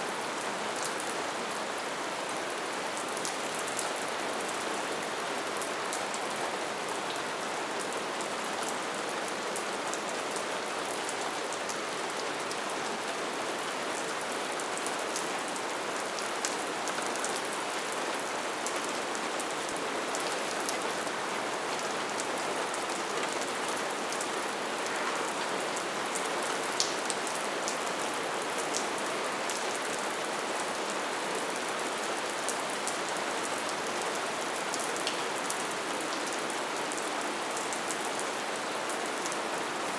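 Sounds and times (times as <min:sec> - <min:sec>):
light steady rain: 0:00.0 - 0:39.9.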